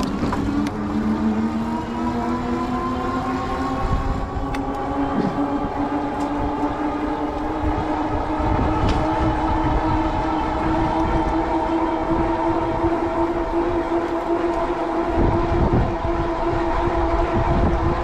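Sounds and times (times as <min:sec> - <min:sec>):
electric bike motor whining: 0:00.0 - 0:18.0
wind rumble on microphone: 0:00.0 - 0:18.0.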